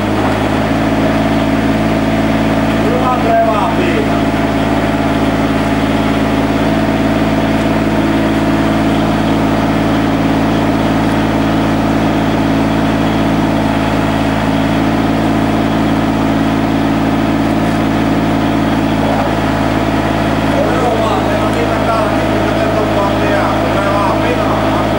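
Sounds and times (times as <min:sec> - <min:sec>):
excavator engine running: 0:00.0 - 0:24.9.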